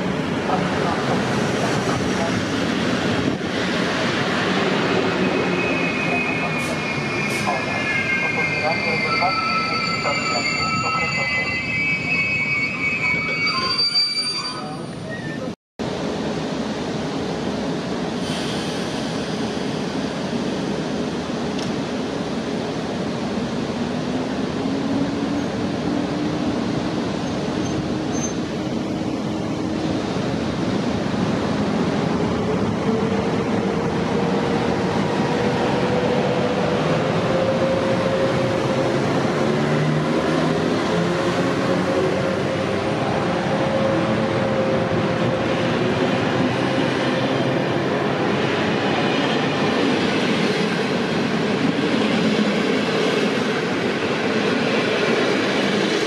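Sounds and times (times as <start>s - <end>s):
electric trains rumbling: 0.0s - 56.0s.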